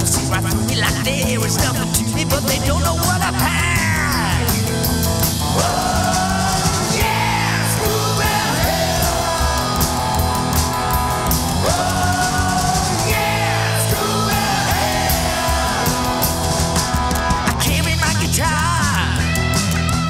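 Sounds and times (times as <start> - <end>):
bass: 0.0 - 20.0
driving drum kit: 0.0 - 20.0
electric guitar with bending notes: 0.0 - 20.0.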